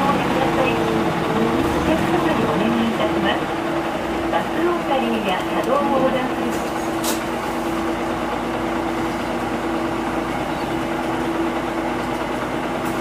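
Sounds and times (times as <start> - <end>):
bus engine hum: 0.0 - 13.0.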